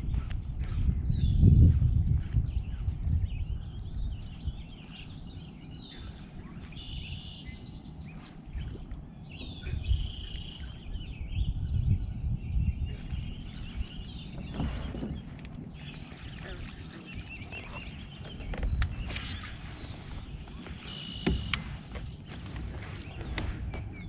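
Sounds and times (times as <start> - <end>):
birds singing and chirping: 0.0 - 24.0
low rumble on microphone: 0.0 - 24.0.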